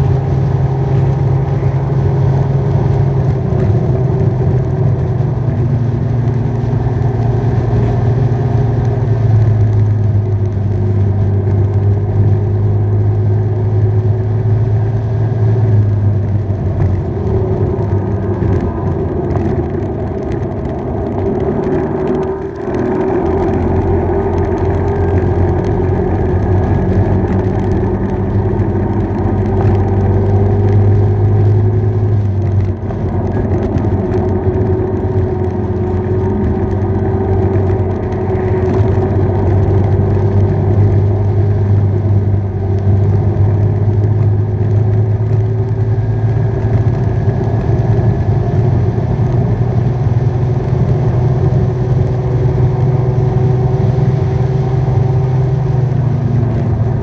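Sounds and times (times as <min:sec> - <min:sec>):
motorbike engine cruising: 0:00.0 - 0:57.0
road noise: 0:00.0 - 0:57.0
wind noise: 0:00.0 - 0:57.0.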